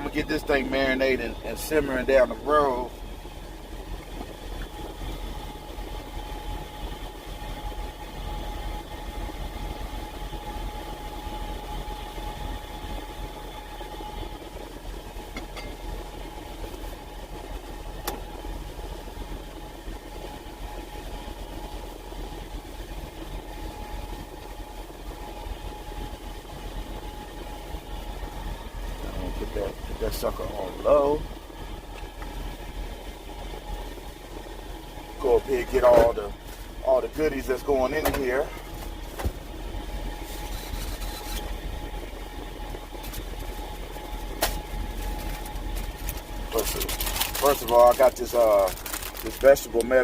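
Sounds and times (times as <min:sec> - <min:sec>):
diesel engine idling: 0:00.0 - 0:50.0
thin steady whine: 0:00.0 - 0:50.0.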